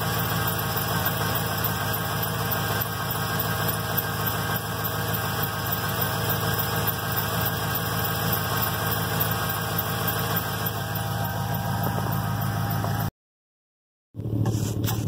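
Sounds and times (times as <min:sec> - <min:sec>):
truck engine idling: 0:00.0 - 0:13.1.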